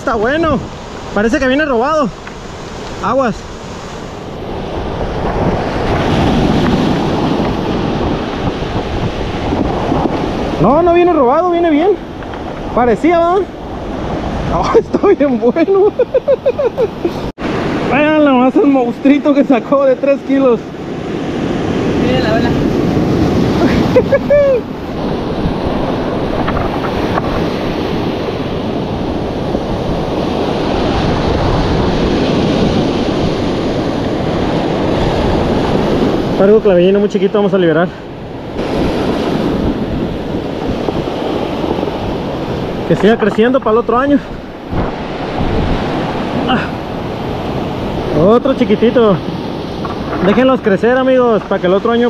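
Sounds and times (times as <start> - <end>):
ocean surf washing ashore: 0.0 - 52.0
wind buffeting microphone: 0.0 - 52.0.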